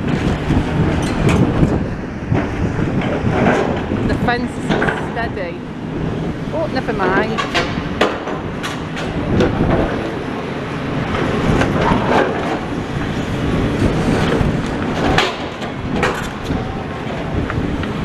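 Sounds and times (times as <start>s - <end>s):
excavator engine rumble: 0.0s - 18.0s
wind buffeting microphone: 0.0s - 18.0s.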